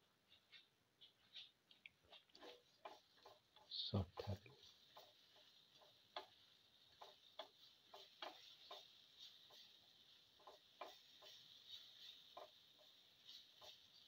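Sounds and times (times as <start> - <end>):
seeds clicking in hot pan: 1.6 - 14.0.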